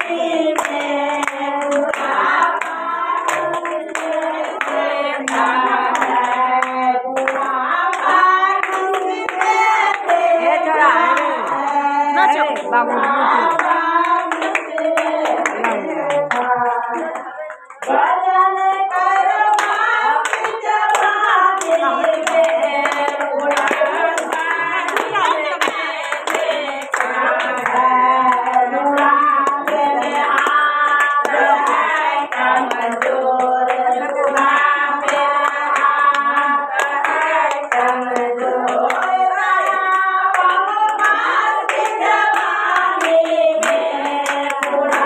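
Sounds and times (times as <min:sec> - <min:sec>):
rhythmic hand clapping: 0:00.0 - 0:45.0
women singing together: 0:00.0 - 0:45.0.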